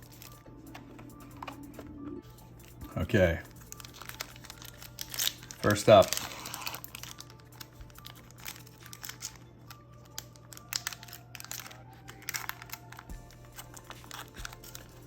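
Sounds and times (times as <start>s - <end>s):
foil wrapper crinkling and tearing: 0.0s - 0.4s, 2.9s - 15.0s
cards being handled: 2.6s - 15.0s.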